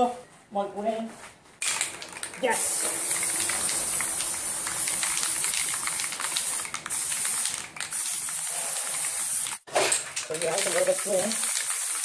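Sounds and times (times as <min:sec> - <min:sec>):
spray paint can hissing: 0:01.6 - 0:09.7, 0:10.3 - 0:12.0.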